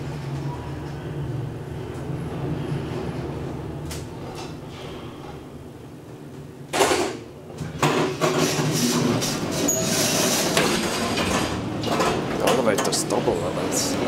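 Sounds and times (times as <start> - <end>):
elevator low hum: 0.0 - 14.0.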